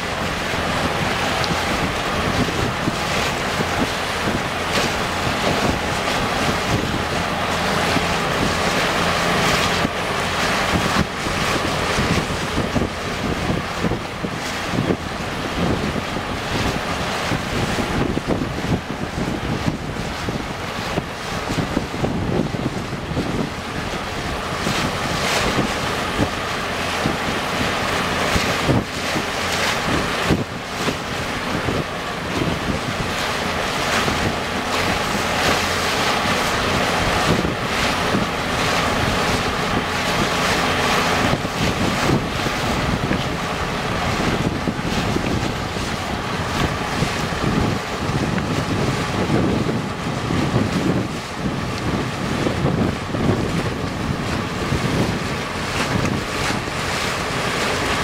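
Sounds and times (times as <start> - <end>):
boat engine running: 0.0 - 58.0
water rushing and splashing: 0.0 - 58.0
wind buffeting microphone: 0.0 - 58.0.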